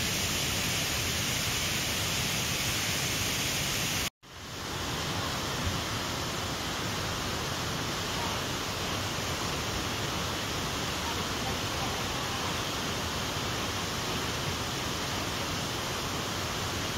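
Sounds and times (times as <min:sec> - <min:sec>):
fast-flowing water rushing: 0:00.0 - 0:16.9.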